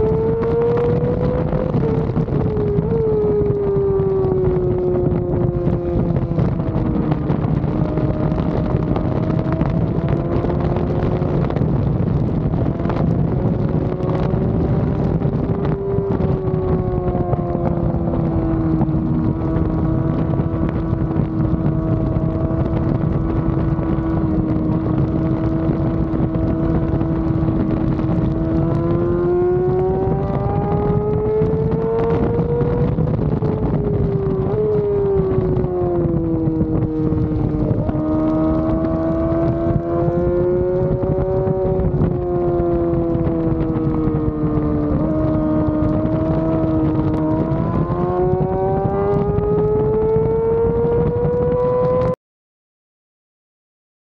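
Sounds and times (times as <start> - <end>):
motorcycle engine at high revs: 0.0 - 52.2
wind noise on microphone: 0.0 - 52.2.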